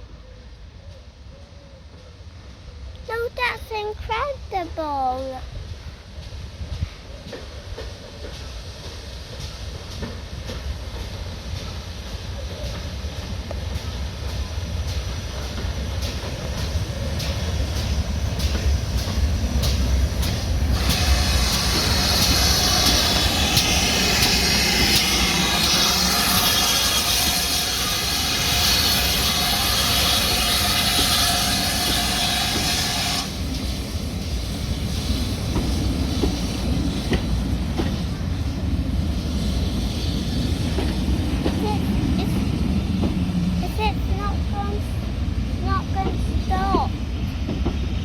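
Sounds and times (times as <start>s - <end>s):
steam train rumbling: 0.0s - 48.0s
loud hiss of steam: 5.0s - 48.0s.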